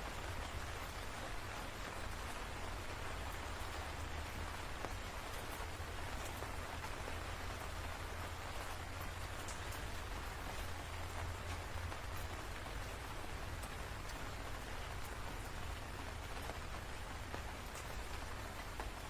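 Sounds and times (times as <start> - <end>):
steady rain hiss: 0.0 - 19.0
sharp raindrop ticks: 0.1 - 19.0.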